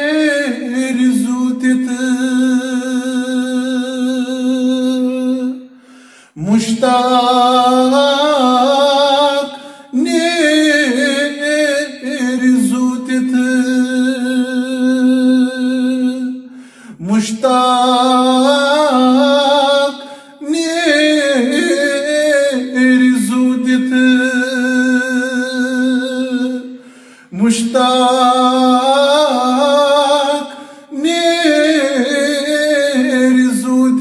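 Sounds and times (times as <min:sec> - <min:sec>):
man singing unaccompanied: 0:00.0 - 0:05.7, 0:06.4 - 0:34.0.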